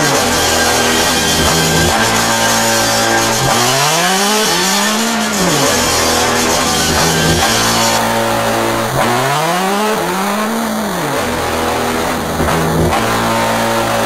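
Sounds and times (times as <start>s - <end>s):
distorted hiss: 0.0s - 14.0s
low droning tone bending: 0.0s - 14.0s.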